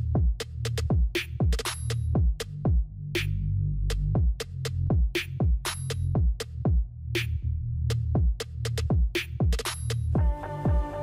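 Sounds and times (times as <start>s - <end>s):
electronic music with drum-machine beat: 0.0s - 11.0s.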